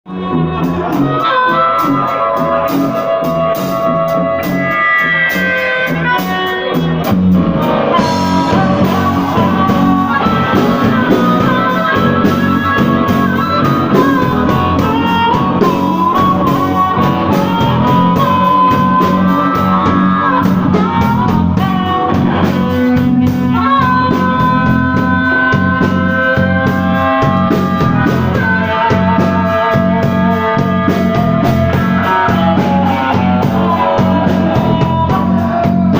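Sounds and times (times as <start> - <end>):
blues band playing live: 0.1 - 35.9
melodic guitar lines: 0.1 - 35.9.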